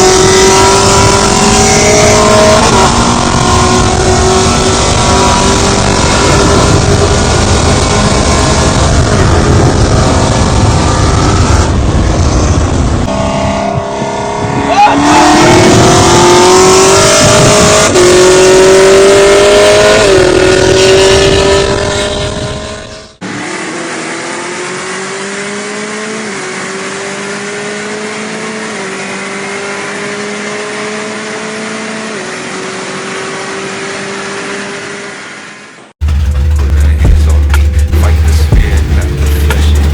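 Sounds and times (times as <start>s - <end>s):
car accelerating through upshifts: 0.0s - 36.8s.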